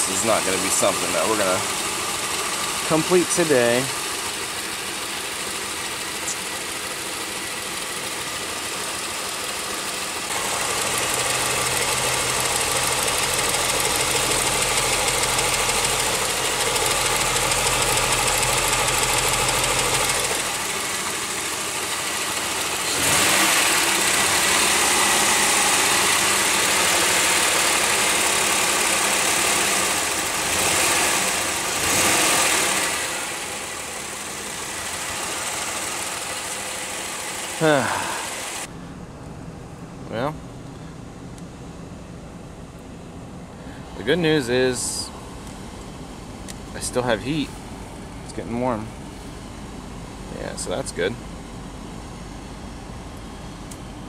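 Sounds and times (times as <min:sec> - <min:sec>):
car engine idling with misfire: 0:00.0 - 0:54.0.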